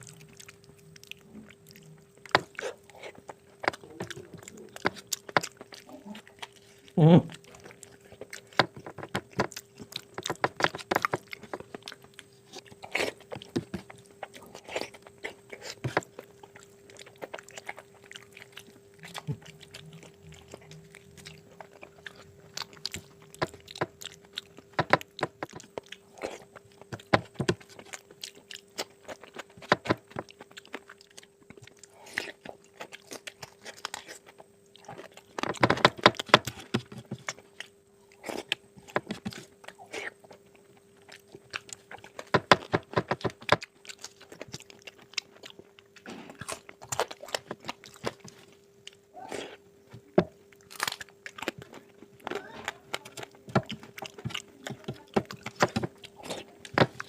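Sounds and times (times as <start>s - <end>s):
faint steady hum: 0.0s - 57.0s
person chewing food: 0.0s - 57.0s.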